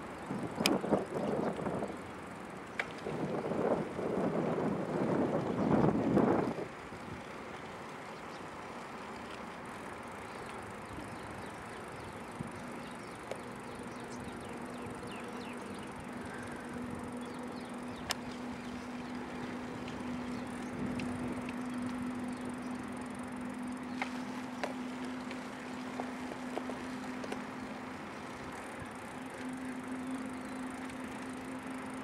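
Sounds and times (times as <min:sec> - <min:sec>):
car road noise: 0:00.0 - 0:32.0.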